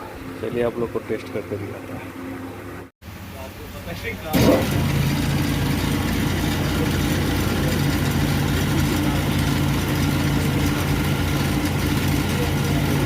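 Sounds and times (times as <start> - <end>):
alternator test bench humming: 0.0 - 13.0.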